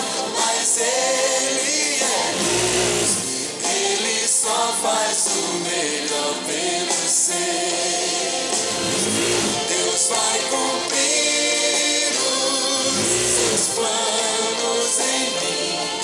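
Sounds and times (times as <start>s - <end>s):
worship music with choir singing: 0.0s - 16.0s.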